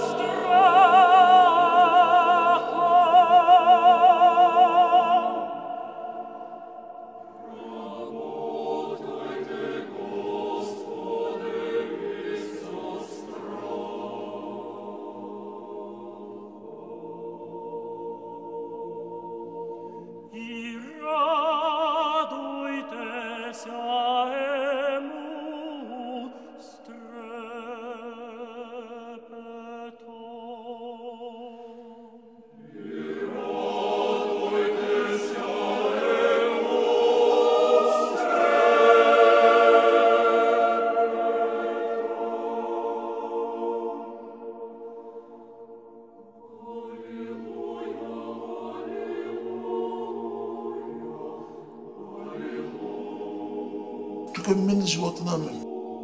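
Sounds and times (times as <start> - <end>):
voices singing with vibrato: 0.0 - 56.0.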